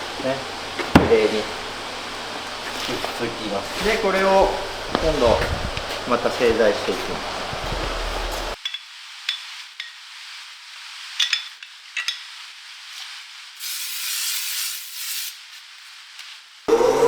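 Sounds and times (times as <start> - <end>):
thin hiss: 0.0 - 17.0.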